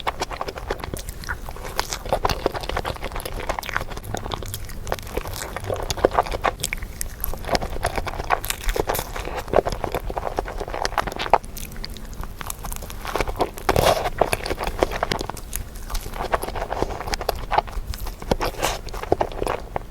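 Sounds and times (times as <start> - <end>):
chewing and biting: 0.0 - 19.9.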